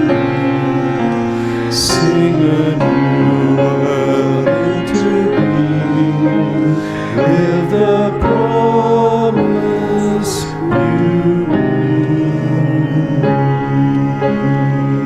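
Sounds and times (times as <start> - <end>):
slow church music chords: 0.0 - 15.0.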